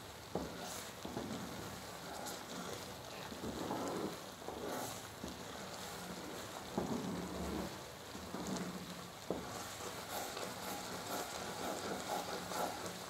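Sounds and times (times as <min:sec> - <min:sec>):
syrup mixture bubbling and sizzling: 0:00.0 - 0:13.0.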